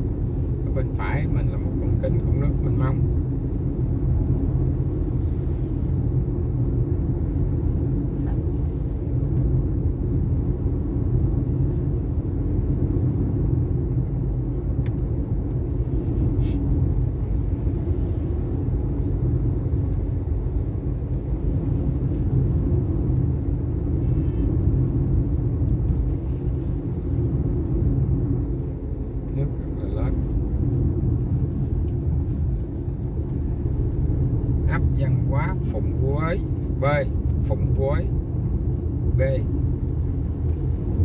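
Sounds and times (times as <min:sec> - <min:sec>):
vehicle engine rumble: 0:00.0 - 0:41.0.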